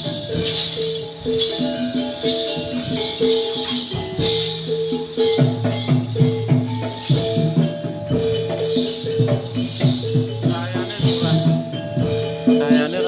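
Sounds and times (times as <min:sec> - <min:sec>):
bells jingling: 0:00.0 - 0:13.0
gamelan-style melody: 0:00.0 - 0:13.0.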